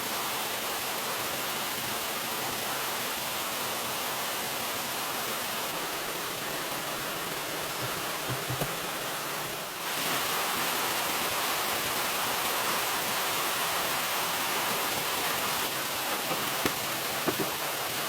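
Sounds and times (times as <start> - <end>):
hiss of rain or running water: 0.0 - 18.0.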